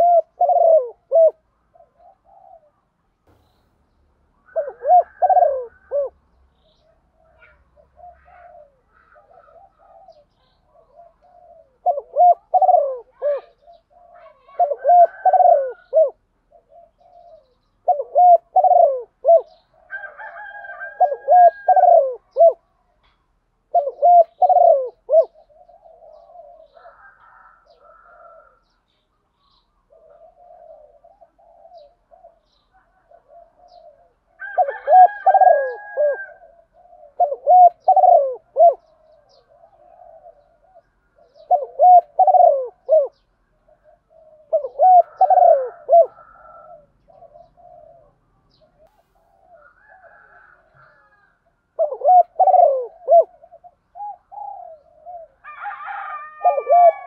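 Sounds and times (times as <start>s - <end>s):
dove cooing: 0.0s - 3.5s, 4.4s - 57.0s.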